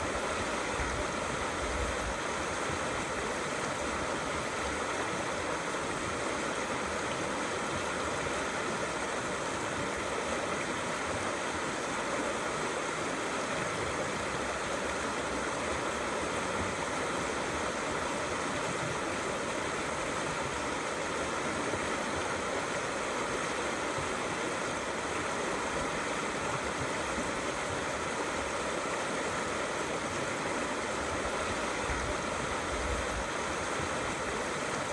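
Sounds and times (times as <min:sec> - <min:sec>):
water rushing over stones: 0:00.0 - 0:34.9.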